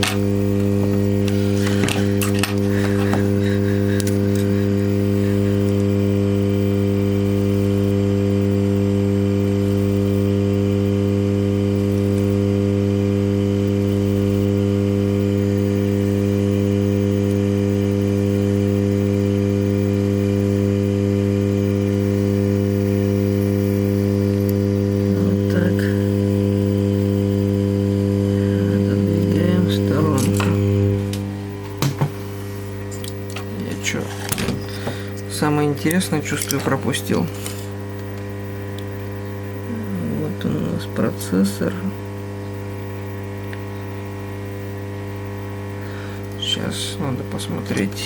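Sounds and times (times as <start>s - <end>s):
low electrical hum: 0.0s - 48.0s.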